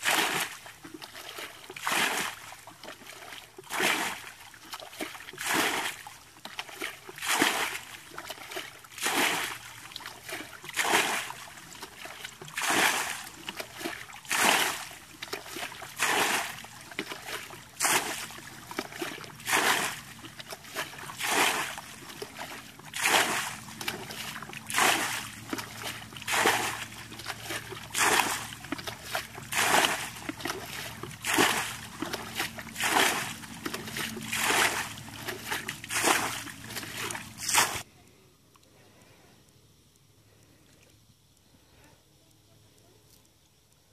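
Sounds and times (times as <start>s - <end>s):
water splashing from bucket: 0.0s - 37.9s.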